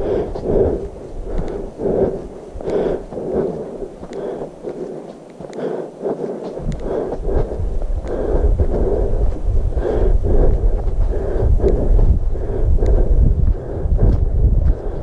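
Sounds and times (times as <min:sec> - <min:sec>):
footsteps on dirt trail: 0:00.0 - 0:15.0
wind rumbling on microphone: 0:00.0 - 0:15.0.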